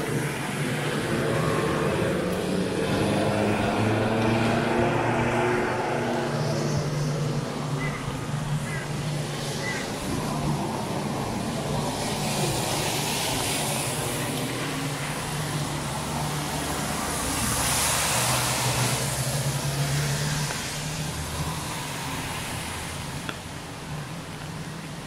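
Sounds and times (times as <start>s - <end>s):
engine hum: 0.0s - 25.0s
tyres hissing on wet road: 0.0s - 25.0s.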